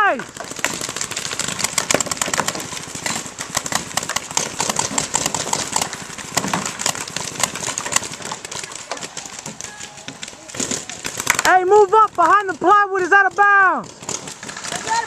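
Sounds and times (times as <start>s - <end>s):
paintball markers firing: 0.0s - 15.0s.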